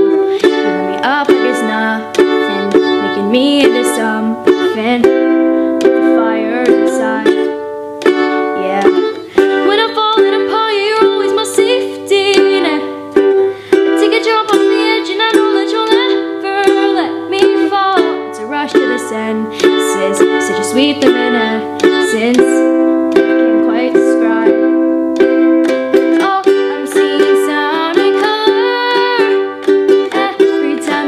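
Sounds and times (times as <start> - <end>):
girl singing: 0.0 - 31.0
ukulele strumming: 0.0 - 31.0.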